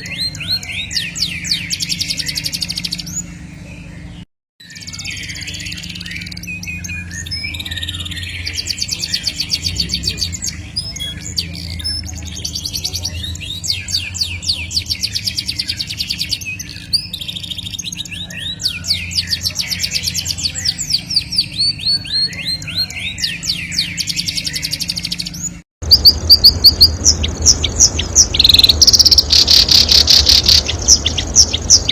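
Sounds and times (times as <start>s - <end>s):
songbird trilling: 0.0s - 31.9s
steady low hum: 0.0s - 31.9s.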